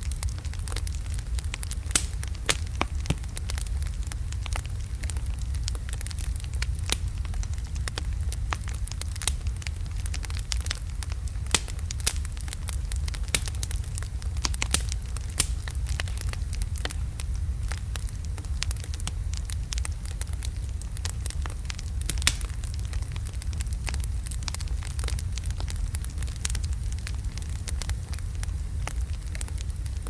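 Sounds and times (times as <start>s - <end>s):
fire crackling and popping: 0.0s - 30.0s
wood fire rumbling: 0.0s - 30.0s.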